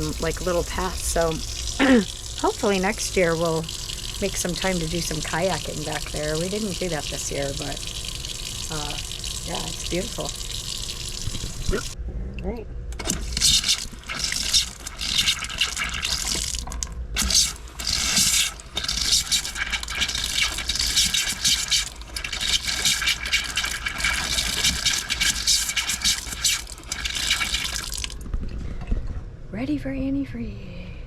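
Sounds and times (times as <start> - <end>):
water running and splashing: 0.0 - 12.0, 13.0 - 28.2.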